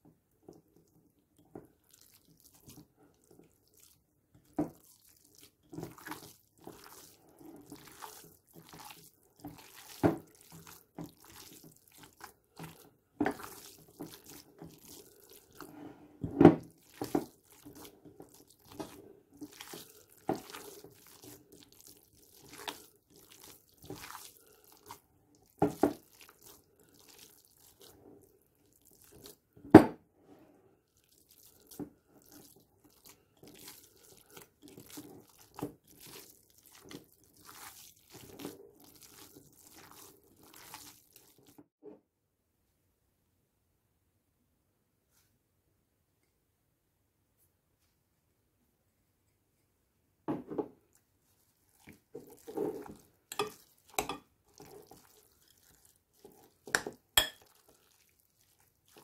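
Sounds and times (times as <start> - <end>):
wet squelching of meat kneaded: 0.2 - 15.8, 16.6 - 29.6, 30.8 - 41.7, 50.8 - 59.0.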